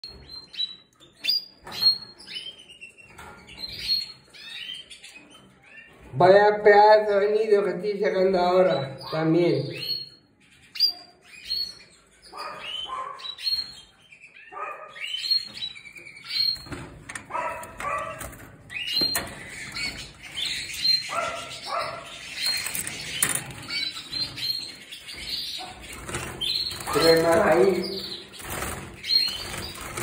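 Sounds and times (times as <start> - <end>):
canaries chirping: 0.0 - 30.0.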